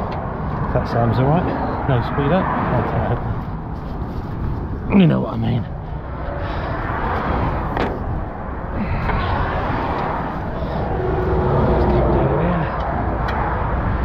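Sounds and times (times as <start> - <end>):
motorway traffic roar: 0.0 - 14.0.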